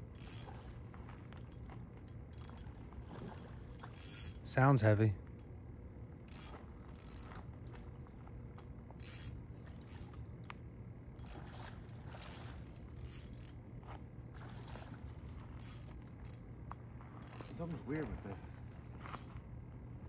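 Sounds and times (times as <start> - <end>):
fishing reel scraping whir: 0.0 - 5.6, 6.2 - 7.7, 8.5 - 19.5
steady low hum: 0.0 - 20.0.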